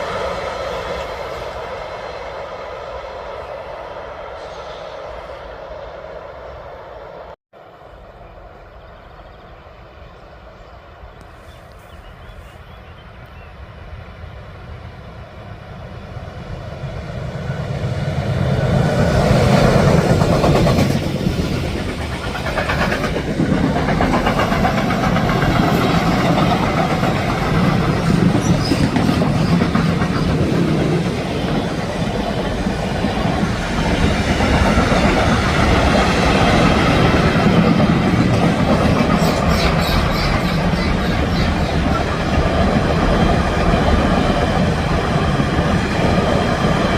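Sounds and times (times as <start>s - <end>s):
train rolling past on rails: 0.0s - 46.9s.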